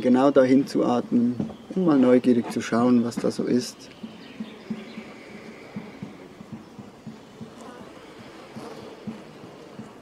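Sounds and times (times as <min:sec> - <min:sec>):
faint bird chirps: 0:00.9 - 0:09.7.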